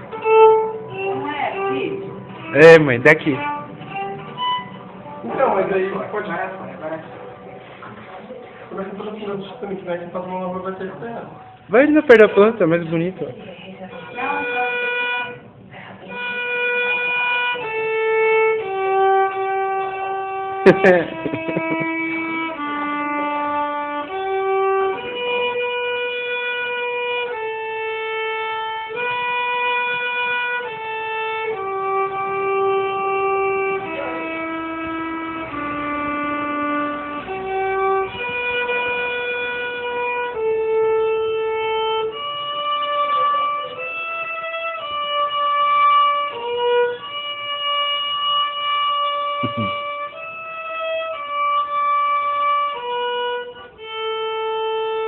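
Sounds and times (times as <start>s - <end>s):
violin playing slow melody: 0.0s - 7.3s, 11.7s - 13.2s, 13.8s - 55.0s.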